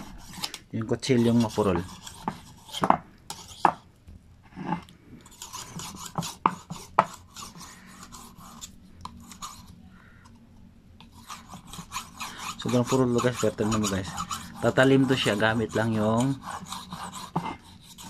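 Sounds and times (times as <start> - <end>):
knife scraping on ceramic: 0.0 - 3.8, 4.5 - 10.4, 11.0 - 18.0.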